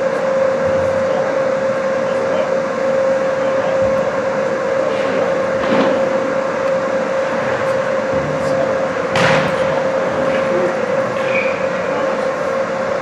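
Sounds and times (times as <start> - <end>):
mechanical drone with hum: 0.0 - 13.0.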